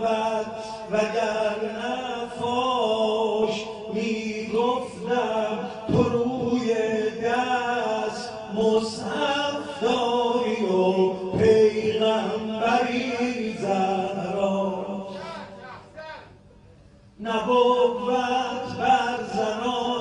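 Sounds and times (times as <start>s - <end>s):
man chanting into microphone: 0.0s - 16.4s, 17.2s - 20.0s.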